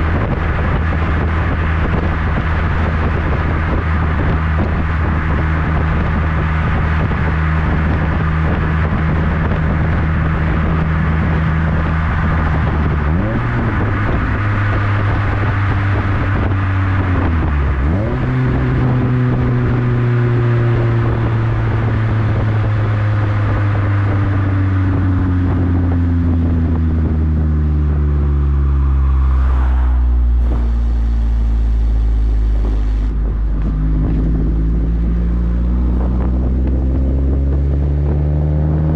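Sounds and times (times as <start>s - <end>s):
car exhaust drone: 0.0s - 38.9s
wind and road noise: 0.0s - 38.9s.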